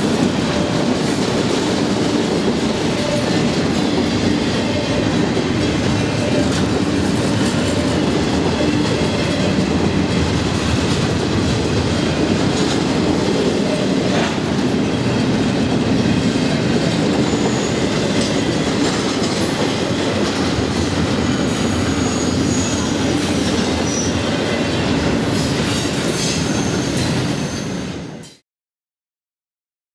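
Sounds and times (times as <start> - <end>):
clickety-clack over rail joints: 0.0 - 28.4
train wheels rumbling on rail: 0.0 - 28.4.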